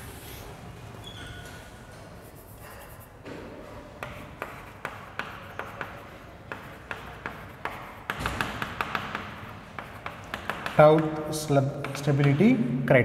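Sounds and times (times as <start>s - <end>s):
chalk tapping and scraping on chalkboard: 1.9s - 12.7s.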